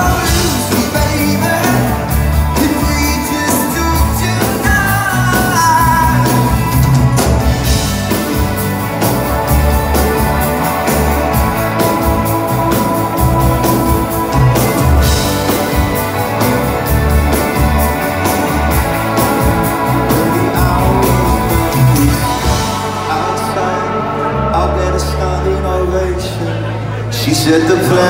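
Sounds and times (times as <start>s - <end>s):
drum kit beat: 0.0s - 24.1s
bass guitar: 0.0s - 28.0s
electric guitars: 0.0s - 28.0s.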